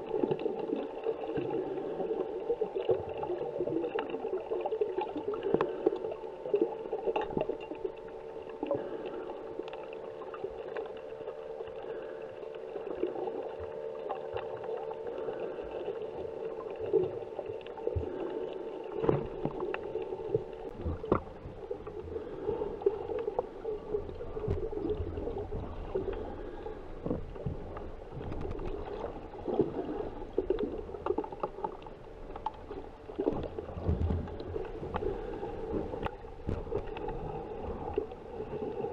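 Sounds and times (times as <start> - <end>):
underwater droning hum: 0.0 - 38.9
water churning: 0.0 - 38.9.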